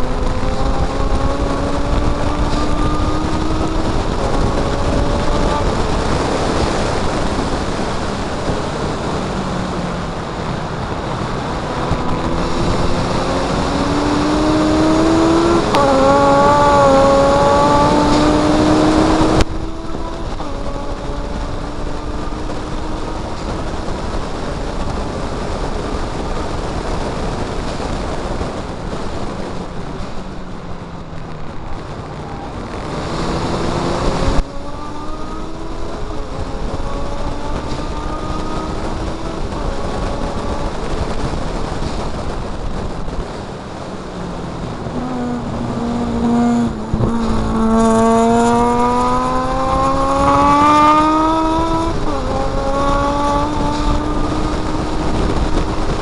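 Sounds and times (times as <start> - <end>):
race car engine pulling hard: 0.0 - 56.0
wind noise on microphone: 0.0 - 56.0.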